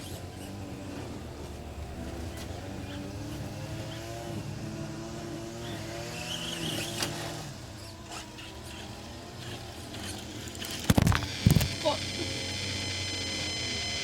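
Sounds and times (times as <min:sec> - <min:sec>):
rc car motor revving: 0:00.0 - 0:14.0.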